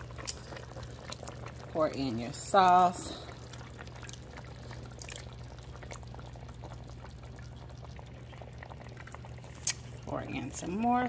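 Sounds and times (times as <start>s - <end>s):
sauce pouring into a pot: 0.0s - 10.1s
steady low hum: 0.0s - 11.0s.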